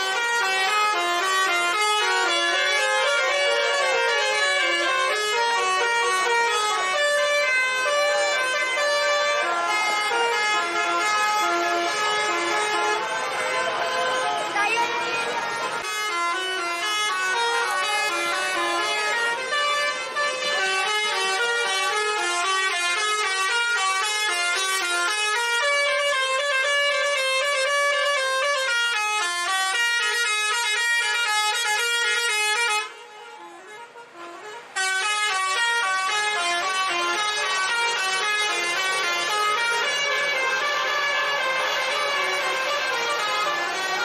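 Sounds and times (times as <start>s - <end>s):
musical air horn melody: 0.0s - 44.0s.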